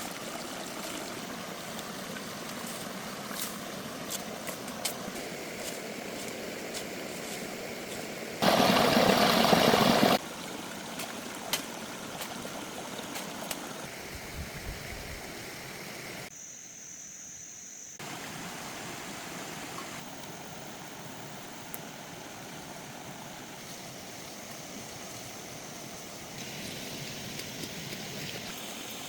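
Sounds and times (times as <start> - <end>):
running water rushing: 0.0 - 16.3, 18.0 - 29.0.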